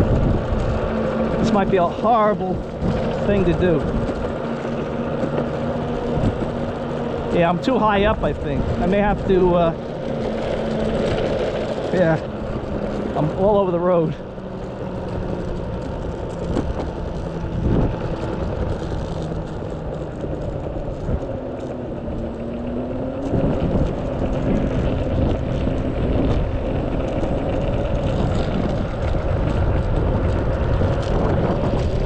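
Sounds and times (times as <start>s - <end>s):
electric motor and belt whine: 0.0s - 32.0s
wheels rumbling on rough asphalt: 0.0s - 32.0s
wind on microphone: 0.0s - 32.0s.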